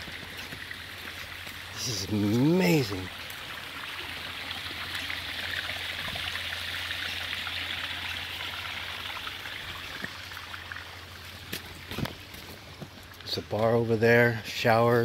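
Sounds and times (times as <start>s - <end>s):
small waterfall splashing: 0.0s - 13.2s.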